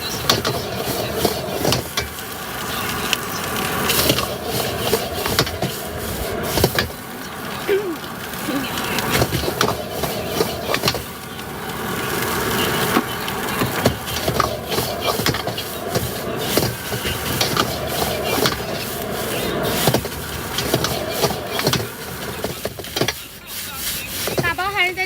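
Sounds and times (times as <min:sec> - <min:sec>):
cooking utensils clattering: 0:00.0 - 0:25.0
steady background noise: 0:00.0 - 0:25.0.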